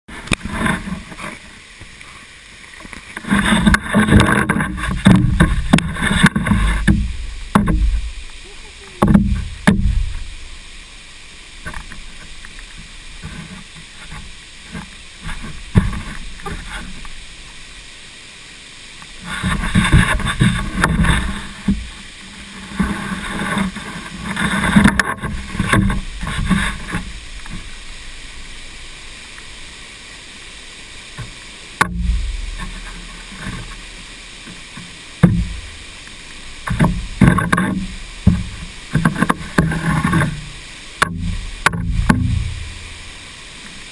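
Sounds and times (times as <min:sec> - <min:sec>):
water rushing and splashing: 0:00.1 - 0:43.9.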